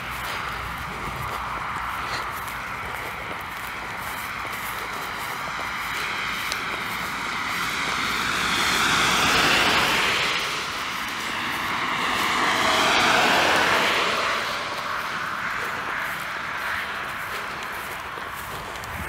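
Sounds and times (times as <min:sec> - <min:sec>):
vehicles driving past: 0:00.0 - 0:19.0.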